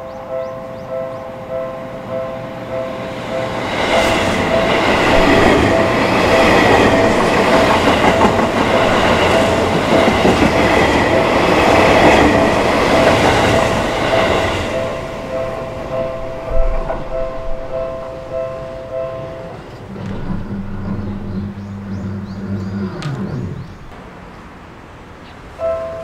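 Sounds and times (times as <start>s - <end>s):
two-tone crossing warning bell: 0.0s - 22.1s, 25.5s - 26.0s
train wheel and rail noise: 0.0s - 26.0s.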